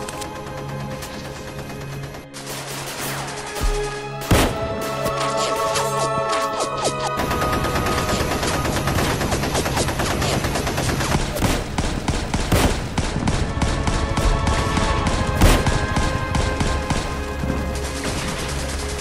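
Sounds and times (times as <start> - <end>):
rapid machine-gun fire: 0.4 - 5.5, 7.1 - 19.0.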